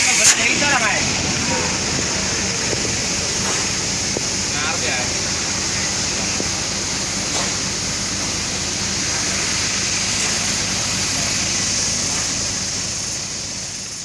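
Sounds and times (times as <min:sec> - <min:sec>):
roadside traffic noise: 0:00.0 - 0:14.0.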